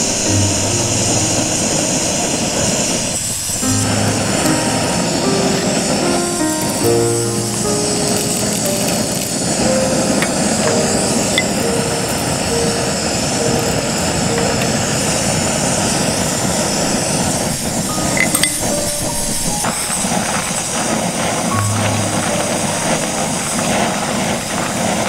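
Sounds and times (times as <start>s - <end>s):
soft background music: 0.0s - 25.0s
steady rushing outdoor noise: 0.0s - 25.0s.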